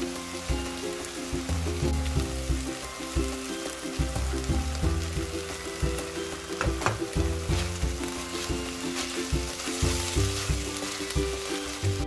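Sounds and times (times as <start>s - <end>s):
background music with steady beat: 0.0s - 12.0s
food sizzling in a wok: 0.0s - 12.0s.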